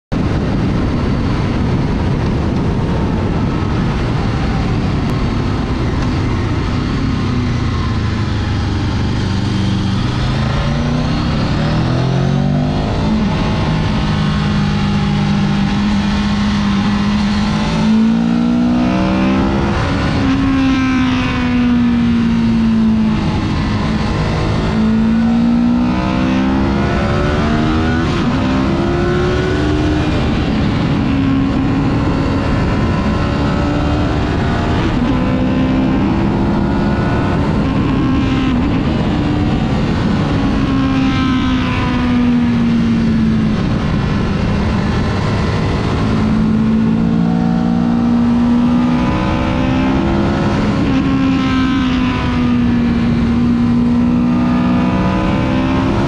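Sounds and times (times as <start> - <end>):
wind and road rush: 0.1 - 56.0
motorcycle engine revving: 0.2 - 56.0.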